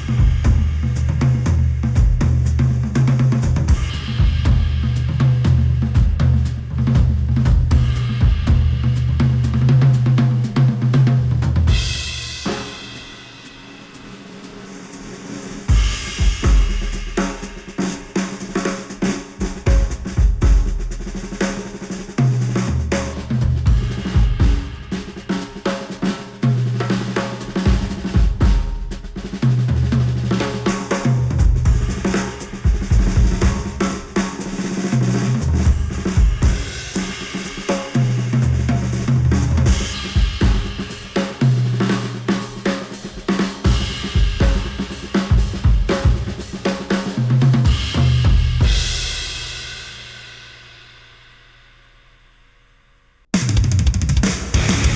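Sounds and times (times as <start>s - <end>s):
instrumental drum and bass music: 0.0s - 52.0s, 53.3s - 54.9s.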